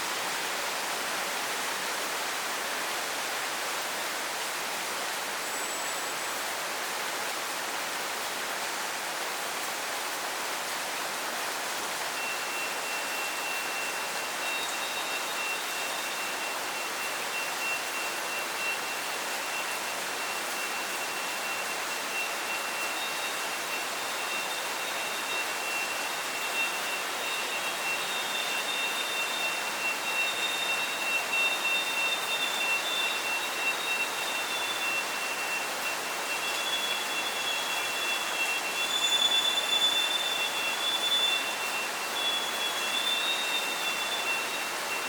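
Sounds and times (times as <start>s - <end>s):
rain hiss: 0.0s - 45.0s.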